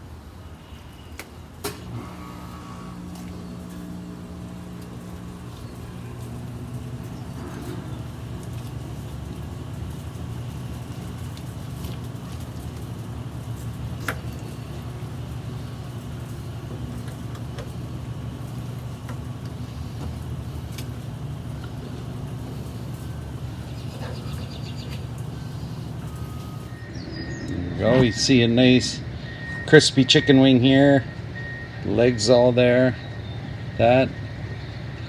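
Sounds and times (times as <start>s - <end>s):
low background rumble: 2.2s - 35.0s.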